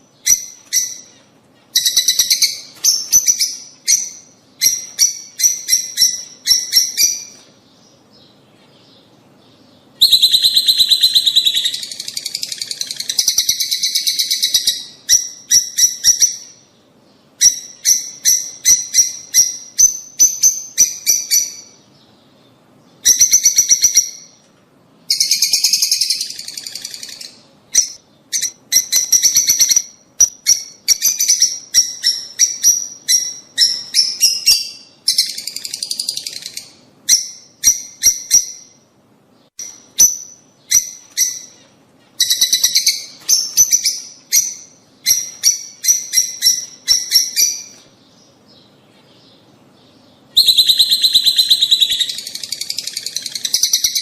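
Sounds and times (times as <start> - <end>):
lovebirds chirping shrilly: 0.0 - 22.1, 25.1 - 38.8, 39.4 - 54.0.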